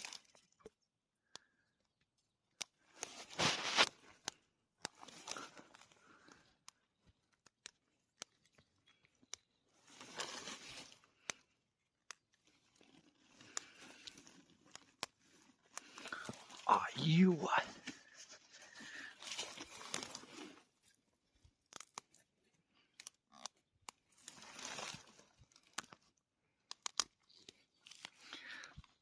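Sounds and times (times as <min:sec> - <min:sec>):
vegetation rustling and snapping: 0:00.0 - 0:01.5, 0:02.5 - 0:17.1, 0:17.7 - 0:28.5.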